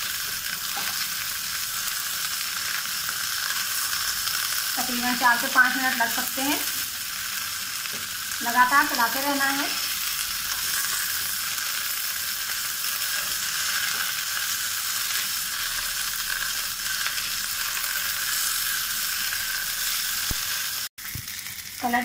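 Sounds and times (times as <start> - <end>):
okra sizzling in a frying pan: 0.0 - 22.0.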